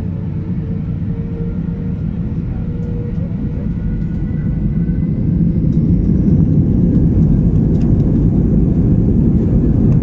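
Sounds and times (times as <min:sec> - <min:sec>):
jet cabin low rumble: 0:00.0 - 0:10.0.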